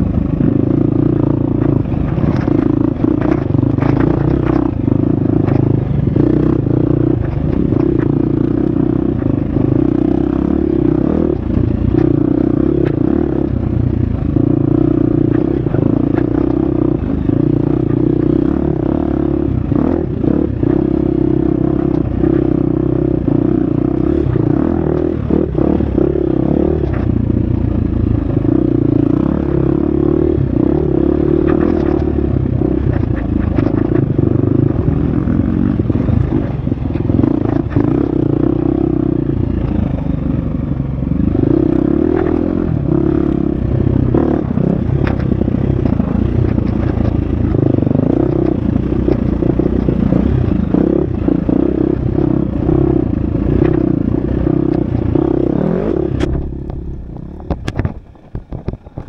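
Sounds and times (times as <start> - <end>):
dirt bike engine revving: 0.0 - 27.4, 28.1 - 40.0, 41.0 - 57.8.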